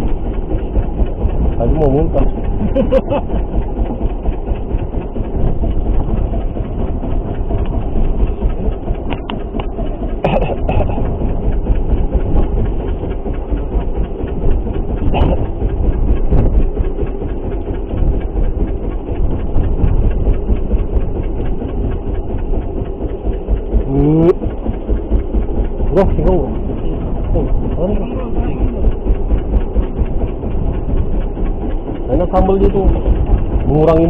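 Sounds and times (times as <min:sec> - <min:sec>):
boat rumbling on rough sea: 0:00.0 - 0:34.0.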